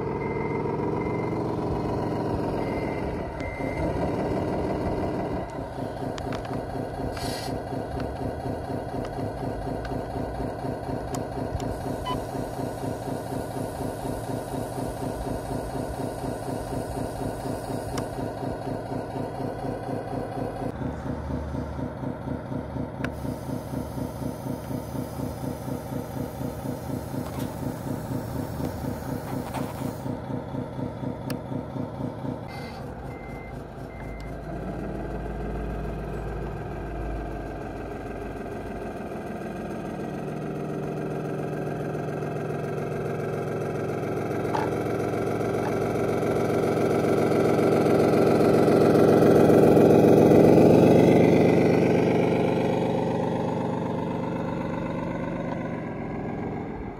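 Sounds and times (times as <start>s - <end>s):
pulsing electronic truck noise: 0.0s - 56.9s.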